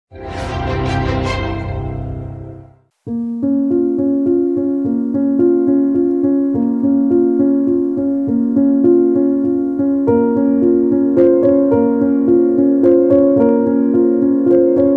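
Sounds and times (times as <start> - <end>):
electric keyboard notes and chords: 0.2 - 14.9.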